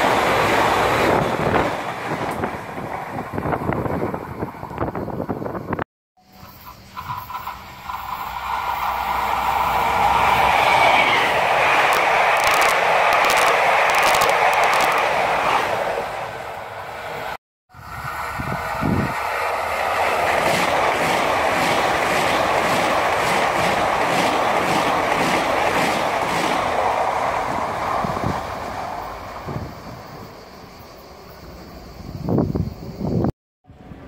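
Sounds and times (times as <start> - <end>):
electric train passing: 0.0 - 34.0.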